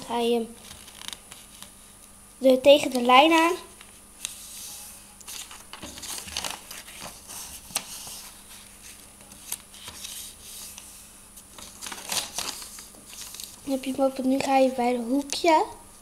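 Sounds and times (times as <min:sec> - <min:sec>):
paper rustling and crinkling: 0:00.6 - 0:01.8, 0:02.8 - 0:15.5.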